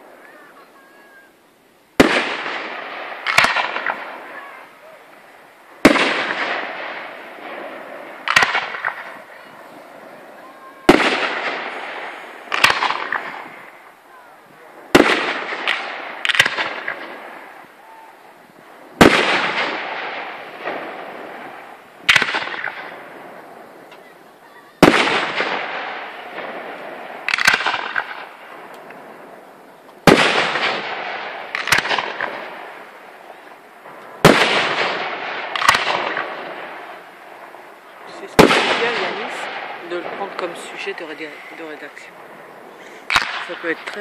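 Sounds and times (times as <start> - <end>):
firework shells bursting: 2.0 - 44.0.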